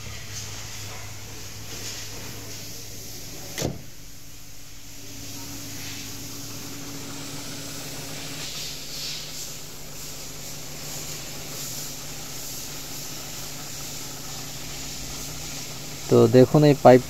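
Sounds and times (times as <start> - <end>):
car engine idling with hiss: 0.0 - 17.0.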